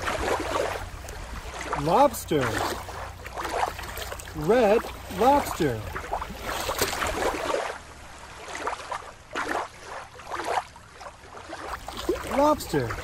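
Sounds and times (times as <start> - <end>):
river water lapping and splashing: 0.0 - 13.0.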